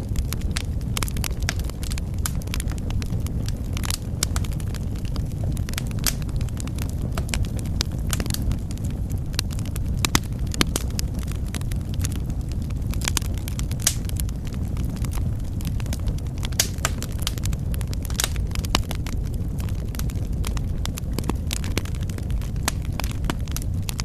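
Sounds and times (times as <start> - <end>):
fire crackling and popping: 0.0 - 24.0
low roar of flames: 0.0 - 24.0.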